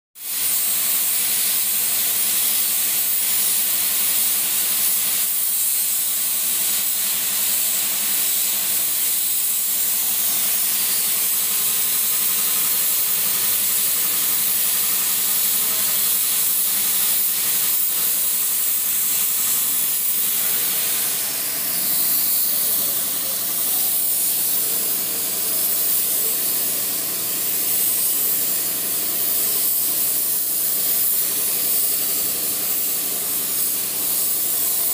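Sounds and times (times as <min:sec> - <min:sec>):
spray gun hissing: 0:00.2 - 0:34.9.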